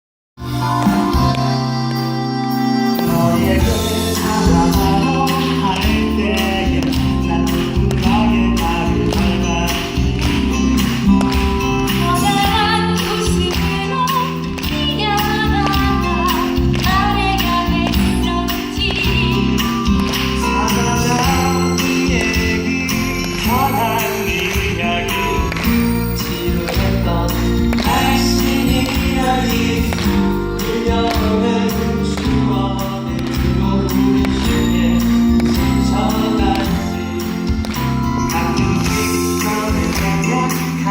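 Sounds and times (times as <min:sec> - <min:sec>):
band playing with steady beat: 0:00.4 - 0:40.9
person singing: 0:00.4 - 0:40.9.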